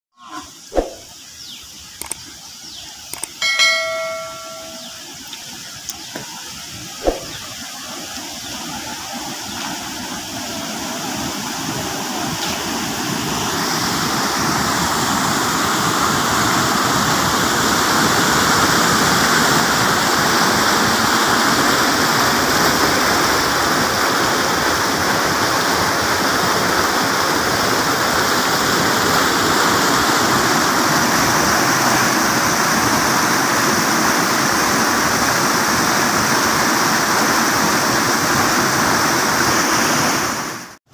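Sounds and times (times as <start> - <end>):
river rushing over rocks: 6.7 - 40.8.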